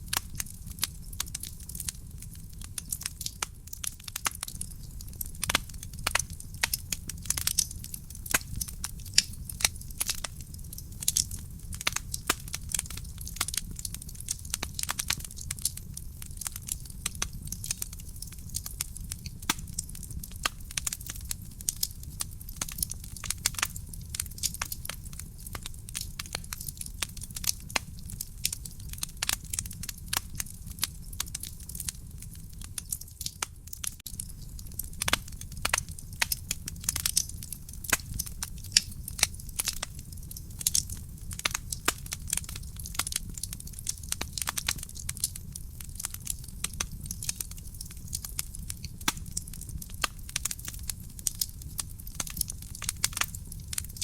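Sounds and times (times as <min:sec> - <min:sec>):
logs crackling and popping: 0:00.0 - 0:54.0
low rumble of flames: 0:00.0 - 0:54.0.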